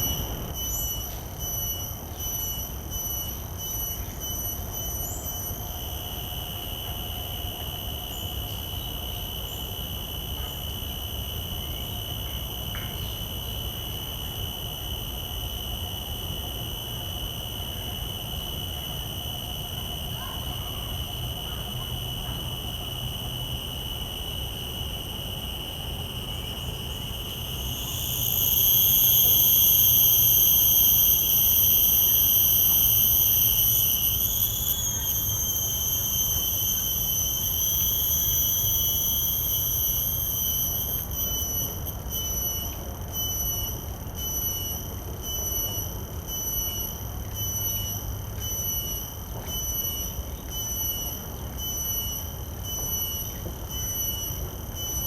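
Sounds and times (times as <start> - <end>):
cicadas singing: 0.0 - 55.0.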